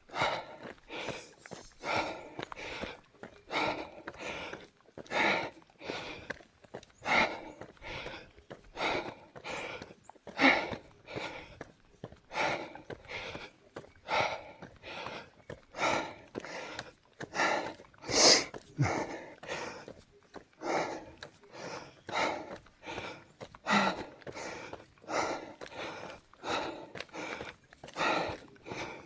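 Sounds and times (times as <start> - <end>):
person breathing hard: 0.1 - 6.4, 7.0 - 20.0, 20.6 - 29.0.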